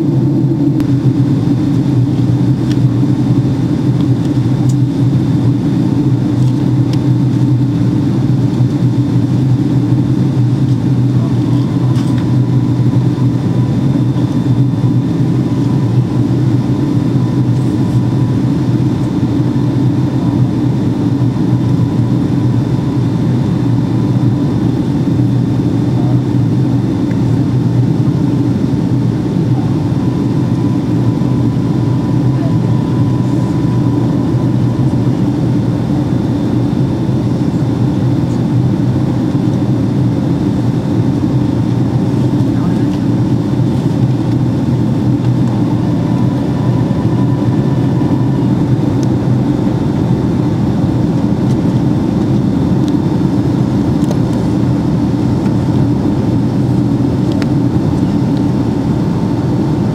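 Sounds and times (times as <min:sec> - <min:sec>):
aircraft engine drone: 0:00.0 - 0:59.9
faint steady whines: 0:00.0 - 0:59.9.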